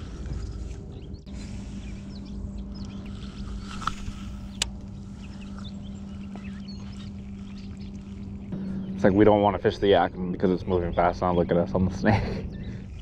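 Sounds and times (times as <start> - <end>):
birds chirping: 0.0 - 13.0
electric trolling motor humming: 0.0 - 13.0.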